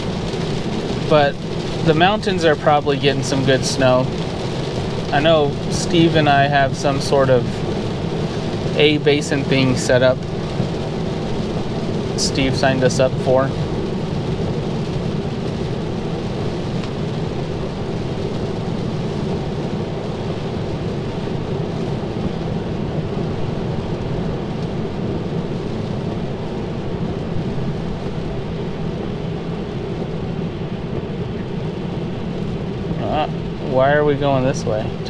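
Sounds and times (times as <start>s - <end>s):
heavy rain on a car: 0.0s - 35.0s
tyre noise on wet road: 0.0s - 35.0s.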